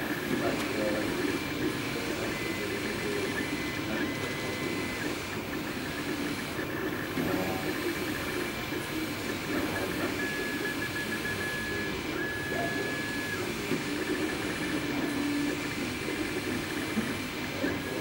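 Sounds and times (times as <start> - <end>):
three d printer whirring: 0.0 - 18.0.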